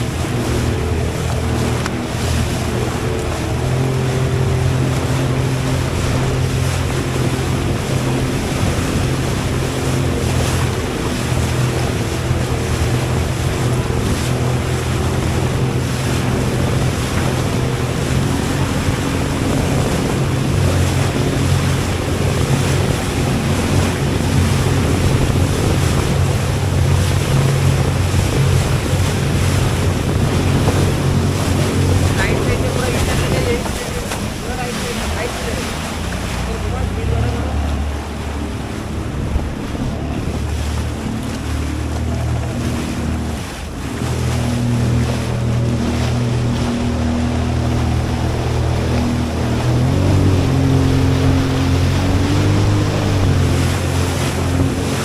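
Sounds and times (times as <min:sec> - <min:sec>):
jet ski engine running: 0:00.0 - 0:55.0
rushing water: 0:00.0 - 0:55.0
wind buffeting microphone: 0:00.0 - 0:55.0.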